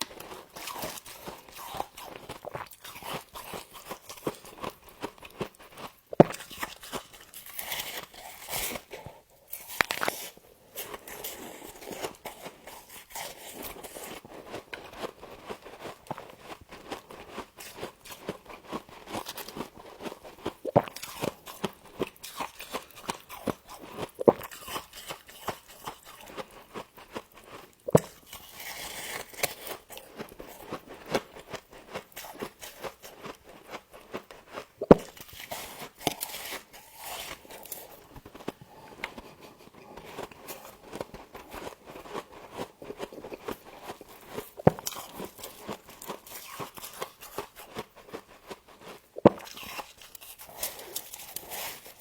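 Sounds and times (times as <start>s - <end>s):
frost being chewed: 0.0s - 52.0s.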